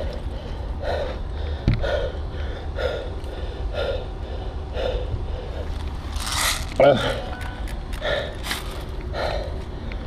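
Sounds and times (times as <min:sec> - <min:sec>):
person breathing hard: 0:00.0 - 0:10.0.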